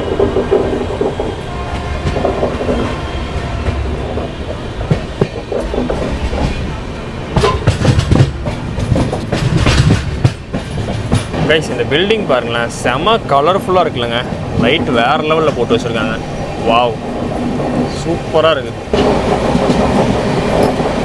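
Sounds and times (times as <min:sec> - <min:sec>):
train rumbling on rails: 0:00.0 - 0:21.0
wheels clattering over track: 0:00.0 - 0:21.0.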